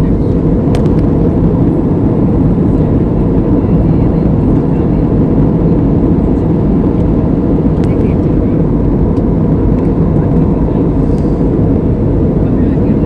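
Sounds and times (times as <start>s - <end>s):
airplane noise: 0.0s - 13.0s.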